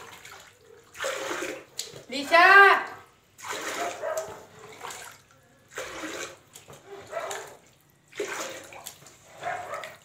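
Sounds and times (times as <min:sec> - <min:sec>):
water pouring and splashing: 0:00.0 - 0:10.0.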